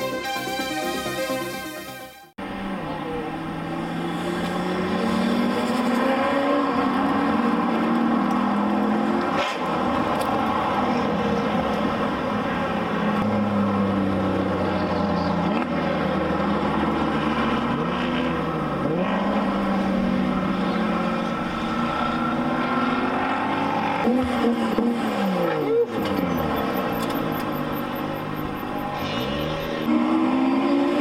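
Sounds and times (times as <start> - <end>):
racing car engines: 2.4 - 31.0.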